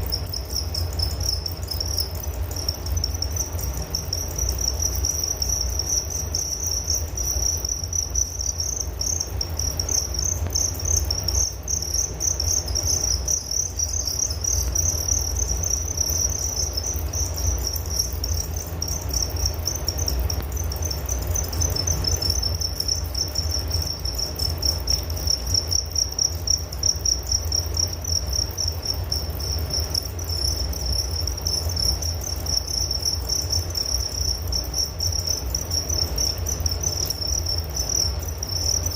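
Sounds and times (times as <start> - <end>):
crickets chirping: 0.0 - 38.9
low steady rumble: 0.0 - 38.9.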